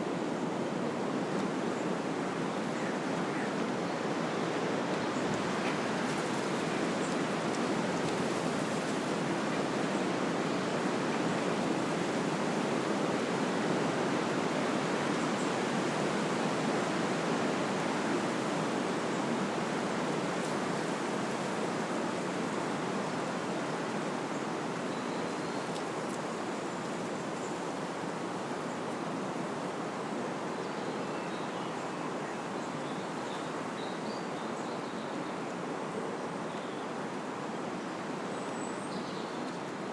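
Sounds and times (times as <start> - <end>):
wind rustling leaves and branches: 0.0 - 39.9.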